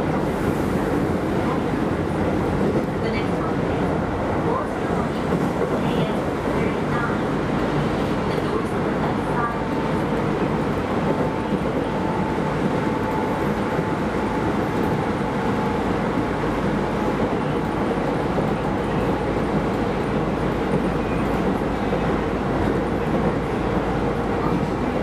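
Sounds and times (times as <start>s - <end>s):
train running inside car: 0.0s - 25.0s.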